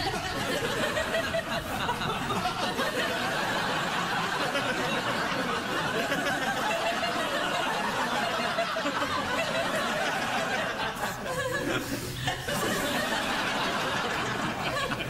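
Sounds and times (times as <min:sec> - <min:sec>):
studio audience laughing: 0:00.0 - 0:15.0.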